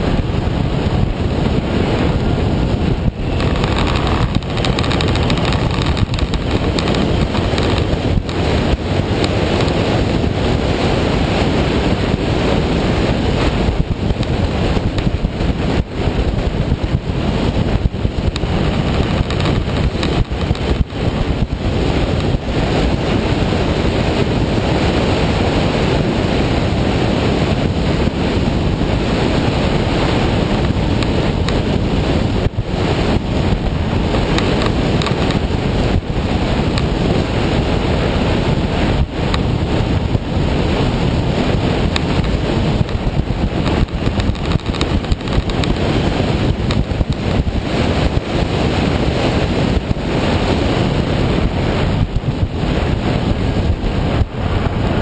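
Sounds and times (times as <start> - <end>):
motorcycle and road noise: 0.0 - 55.0
wind roaring on microphone: 0.0 - 55.0.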